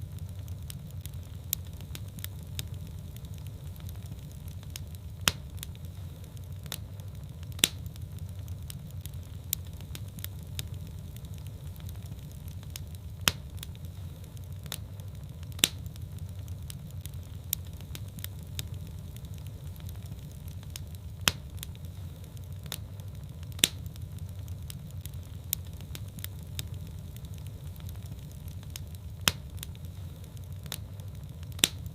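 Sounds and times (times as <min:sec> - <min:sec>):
fire crackling and popping: 0:00.0 - 0:31.9
fire rumbling: 0:00.0 - 0:31.9.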